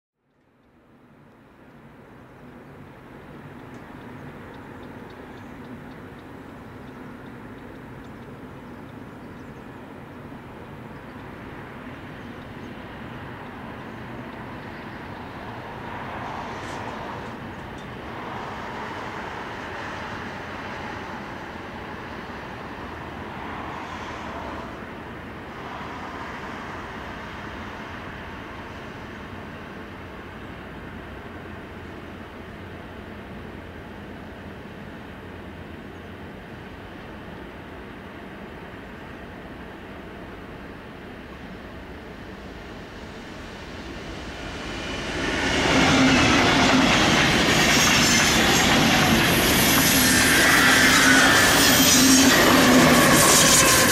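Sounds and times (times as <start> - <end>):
train rumbling on rails: 1.0 - 53.9.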